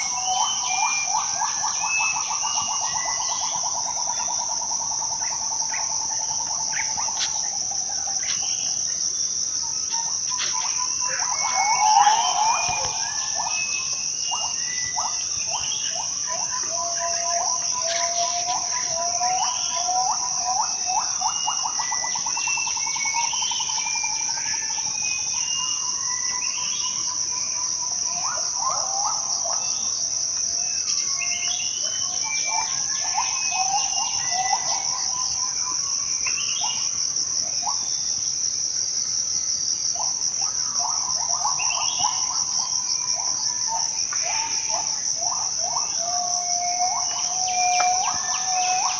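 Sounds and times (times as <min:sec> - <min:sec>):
birds calling in whistled notes: 0:00.0 - 0:48.9
high-pitched insect drone: 0:00.0 - 0:48.9.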